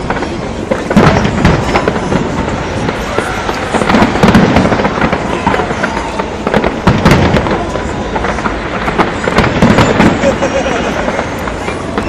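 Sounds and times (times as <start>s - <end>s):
fireworks crackling and popping: 0.0s - 12.0s
heavy firework boom: 0.0s - 12.0s.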